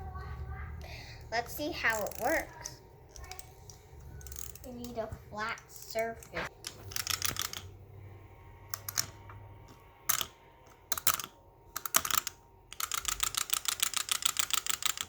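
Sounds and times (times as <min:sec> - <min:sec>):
clockwork mechanism clicking: 0:01.4 - 0:07.8, 0:08.7 - 0:15.0.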